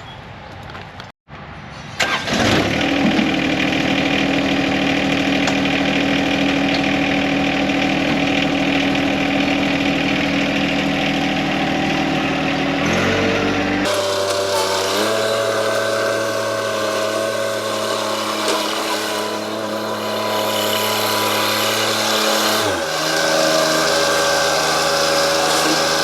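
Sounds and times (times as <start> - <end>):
diesel tractor engine running: 2.0 - 26.0.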